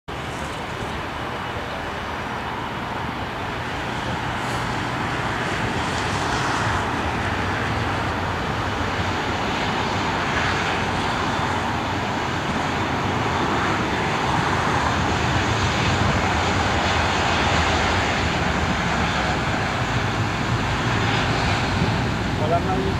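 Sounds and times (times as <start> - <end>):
jet engines taxiing: 0.1 - 22.9.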